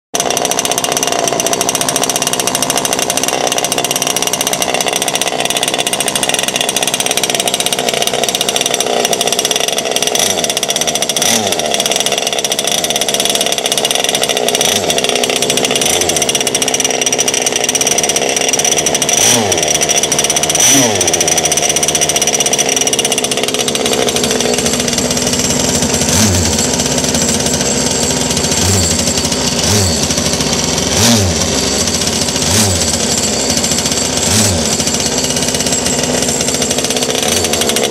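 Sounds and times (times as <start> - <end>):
speedboat two-stroke engine buzzing: 0.2 - 37.9.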